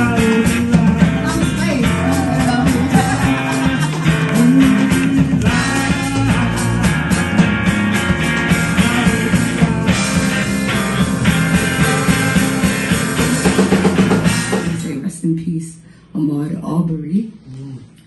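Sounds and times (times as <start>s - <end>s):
strummed acoustic guitar: 0.0s - 14.7s
electric bass: 0.0s - 15.0s
drums: 0.0s - 15.2s.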